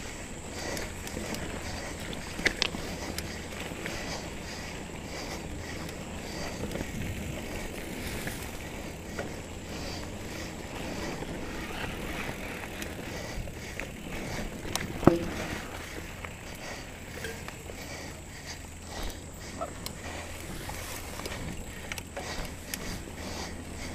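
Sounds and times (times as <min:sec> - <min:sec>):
bike clicks and rattles: 0:00.0 - 0:23.9
bike tyres rolling on dirt: 0:00.0 - 0:23.9.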